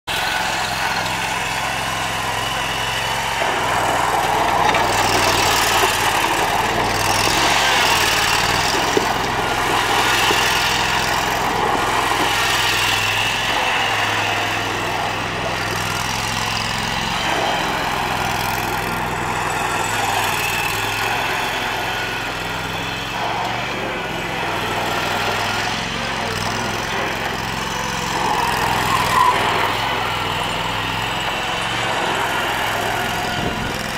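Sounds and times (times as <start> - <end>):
riding mower engine running: 0.1 - 33.9.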